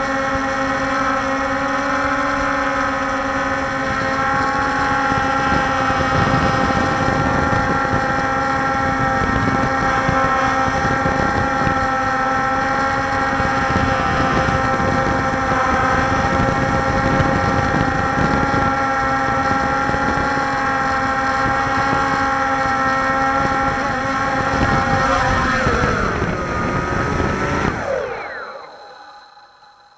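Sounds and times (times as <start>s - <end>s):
wind noise on microphone: 0.0s - 29.0s
drone motors whining: 0.0s - 29.9s.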